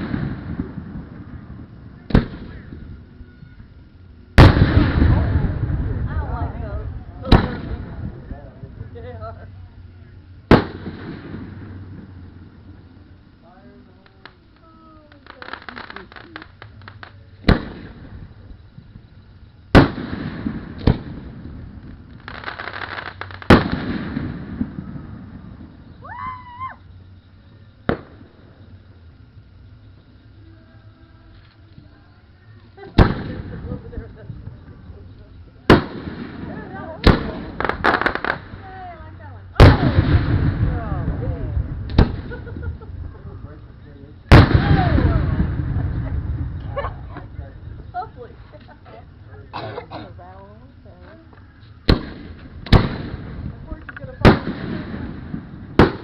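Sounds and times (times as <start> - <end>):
fireworks booming: 0.0 - 30.2, 32.7 - 50.8, 51.8 - 56.0
low rumble of fireworks: 0.0 - 56.0.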